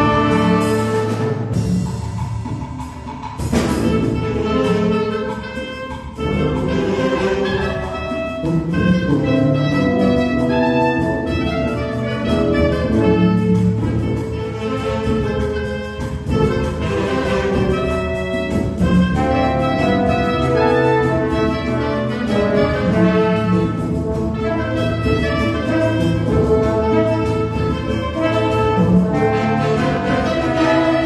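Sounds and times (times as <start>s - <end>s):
wind band sustained chords: 3.2s - 31.0s.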